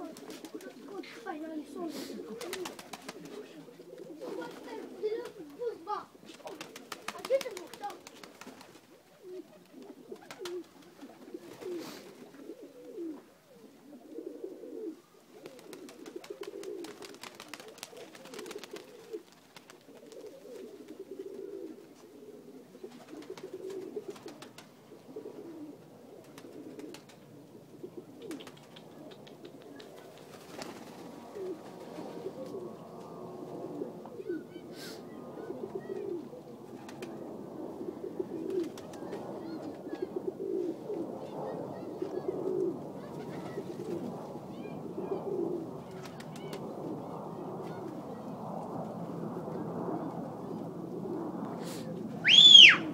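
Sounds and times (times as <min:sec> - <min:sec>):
pigeons cooing: 0:00.0 - 0:48.2.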